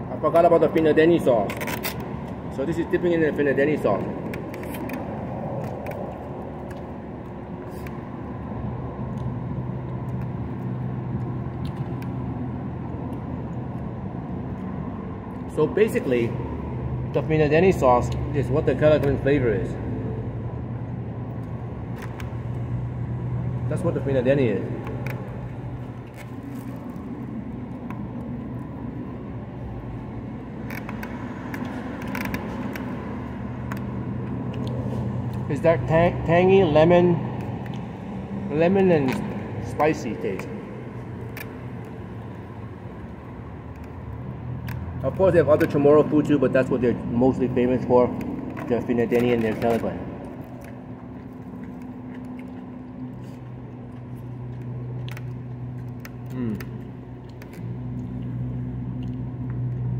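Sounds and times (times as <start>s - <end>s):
low engine hum: 0.0s - 59.9s.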